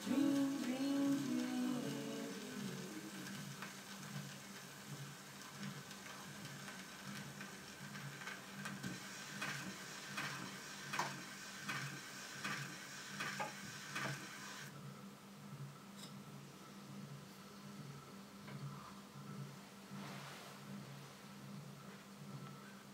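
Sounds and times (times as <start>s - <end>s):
record surface hiss and crackle: 0.0s - 22.9s.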